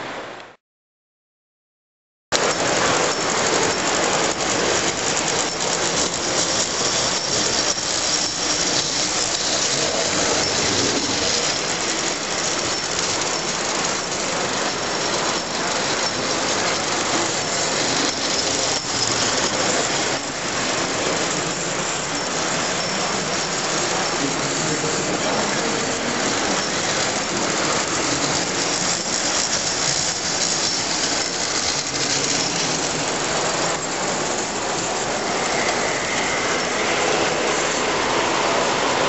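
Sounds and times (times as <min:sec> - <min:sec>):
toy trains rolling: 0:02.4 - 0:39.0.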